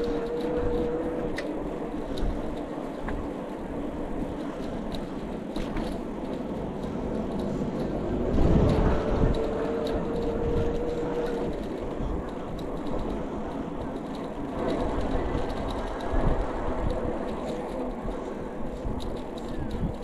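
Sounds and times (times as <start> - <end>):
e-bike riding rumble: 0.0 - 20.0
thin steady whine: 0.0 - 20.0.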